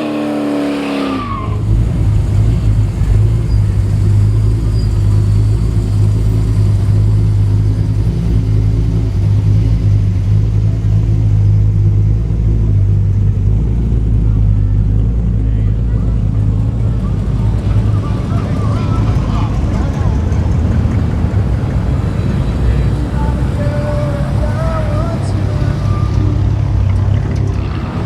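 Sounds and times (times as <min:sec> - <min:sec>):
car engine rumbling: 0:00.0 - 0:28.0.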